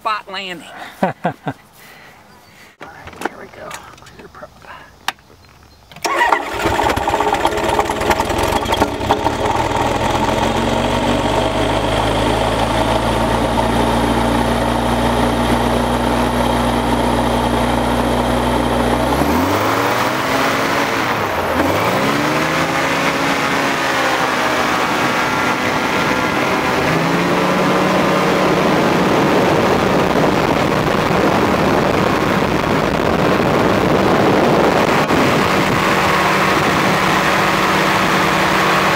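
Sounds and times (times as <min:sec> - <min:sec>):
engine and propeller running: 0:06.0 - 0:38.9.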